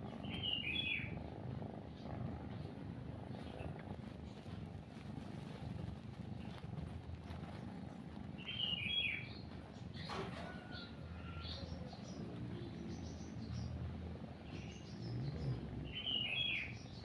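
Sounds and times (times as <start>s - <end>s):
birds chirping: 0.0s - 17.0s
cat purring: 0.0s - 17.0s.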